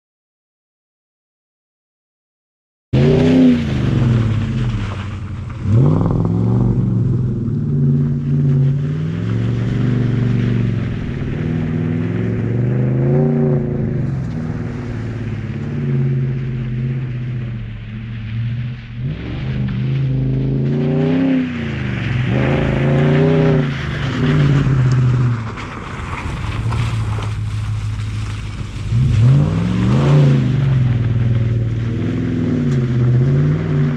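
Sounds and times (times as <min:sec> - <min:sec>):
engine revving: 0:03.0 - 0:33.9.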